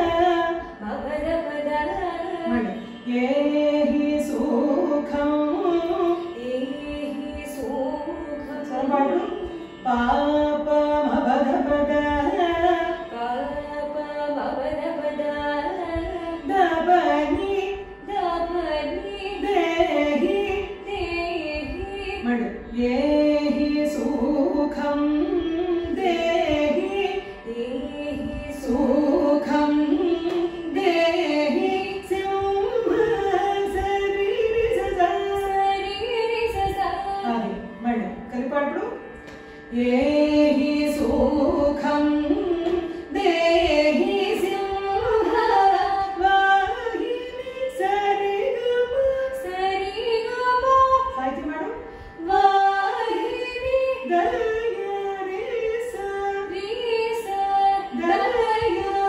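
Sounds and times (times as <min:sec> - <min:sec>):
women singing: 0:00.0 - 0:38.0, 0:39.7 - 0:59.0
veena accompaniment: 0:00.0 - 0:59.0.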